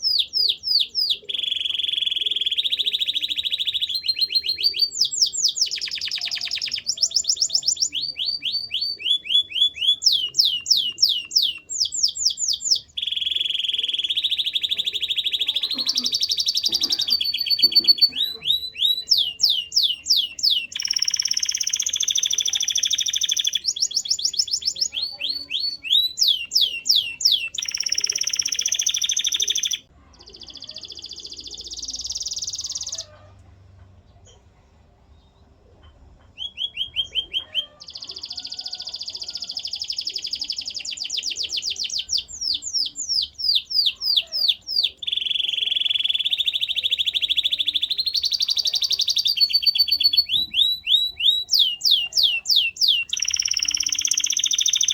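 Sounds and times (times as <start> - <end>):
canary singing: 0.0 - 33.3, 36.2 - 54.9.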